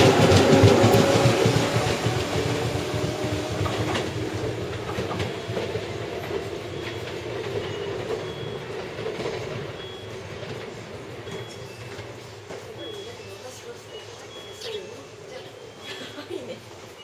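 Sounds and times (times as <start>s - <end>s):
wheels clicking over rail joints: 0.0s - 14.6s
electric train pulling away: 0.0s - 16.0s.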